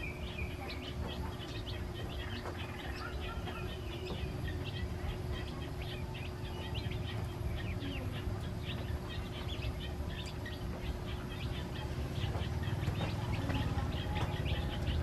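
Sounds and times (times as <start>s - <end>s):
ducklings peeping: 0.0s - 15.0s.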